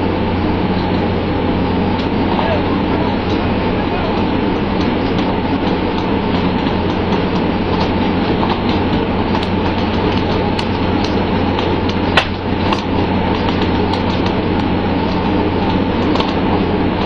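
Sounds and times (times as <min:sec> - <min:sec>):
boat engine droning: 0:00.0 - 0:17.0
water spray and rushing sea: 0:00.0 - 0:17.0.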